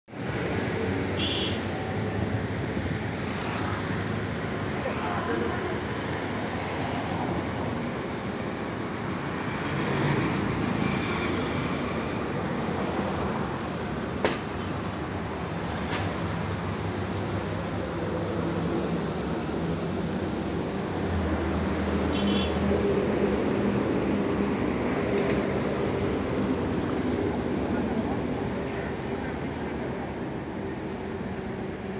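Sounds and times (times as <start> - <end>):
outdoor rumble and hiss: 0.1 - 31.9.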